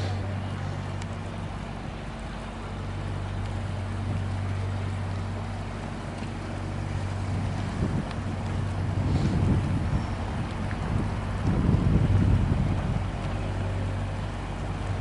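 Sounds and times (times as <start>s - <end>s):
boat diesel engine running: 0.0s - 15.0s.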